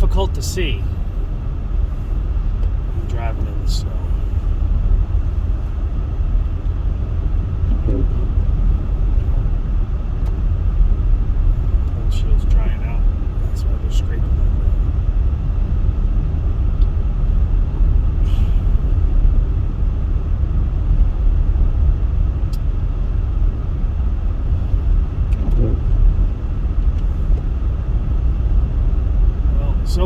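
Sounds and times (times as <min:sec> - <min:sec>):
car driving on snowy road: 0:00.0 - 0:30.0.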